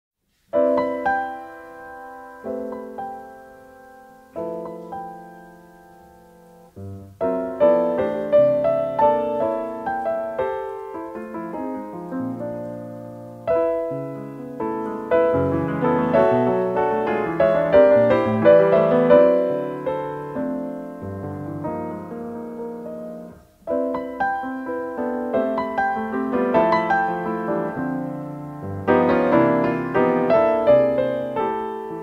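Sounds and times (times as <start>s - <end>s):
piano music: 0.5s - 32.0s.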